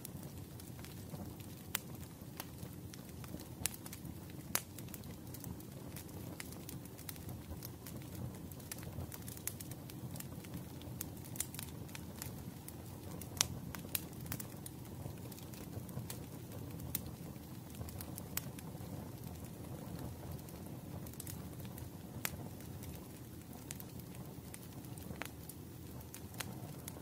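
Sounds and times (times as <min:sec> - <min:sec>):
low rush of burning logs: 0:00.0 - 0:27.0
wood fire crackling and popping: 0:00.0 - 0:27.0.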